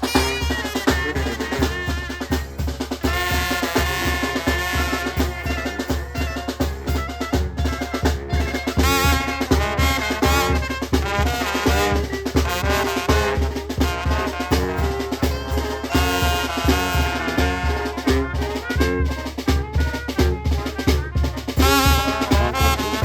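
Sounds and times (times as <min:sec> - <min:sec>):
brass instruments playing melody: 0:00.0 - 0:23.0
drums steady beat: 0:00.0 - 0:23.0.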